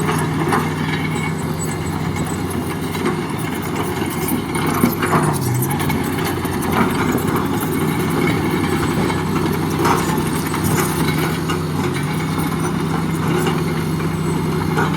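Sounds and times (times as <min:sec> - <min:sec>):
diesel engine idling: 0:00.0 - 0:14.9.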